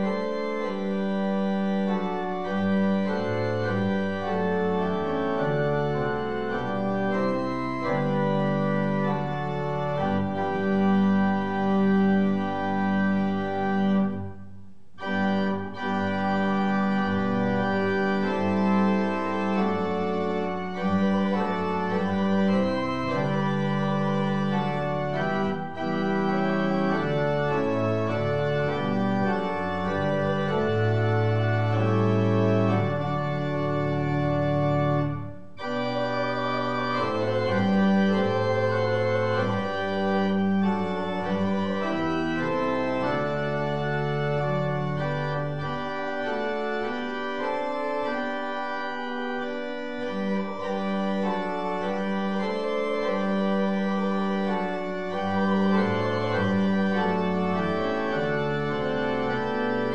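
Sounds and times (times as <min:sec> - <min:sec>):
pipe organ playing chords: 0:00.0 - 0:59.9.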